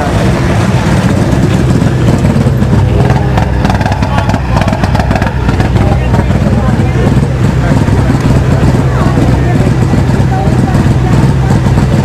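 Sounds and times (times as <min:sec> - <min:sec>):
rally car engine rumbling: 0:00.0 - 0:12.0.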